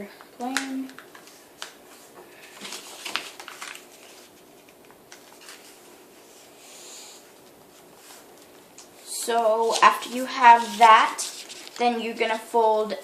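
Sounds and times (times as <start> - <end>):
paper crackling: 0.5 - 6.2, 7.3 - 12.4
paper rustling and crinkling: 0.6 - 6.5, 7.3 - 12.1.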